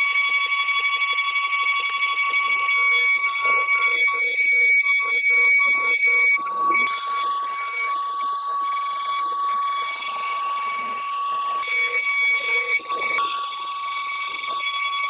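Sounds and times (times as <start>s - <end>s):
cnc router high-pitched whine: 0.0s - 15.0s.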